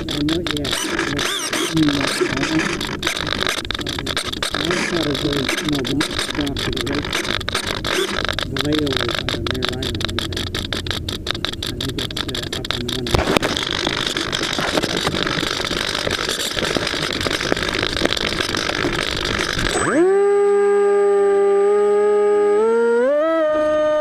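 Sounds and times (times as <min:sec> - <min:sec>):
electric motor buzzing tone: 0:00.0 - 0:24.0.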